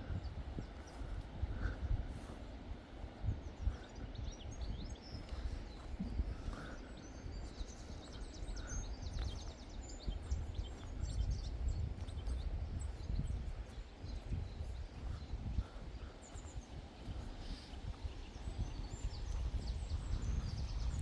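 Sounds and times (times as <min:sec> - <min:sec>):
small birds twittering: 0:00.0 - 0:21.0
wind rumble on microphone: 0:00.0 - 0:21.0.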